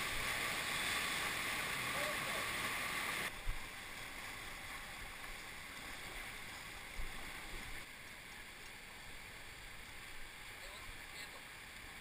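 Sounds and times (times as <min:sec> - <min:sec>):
creek rushing: 0:00.0 - 0:12.0.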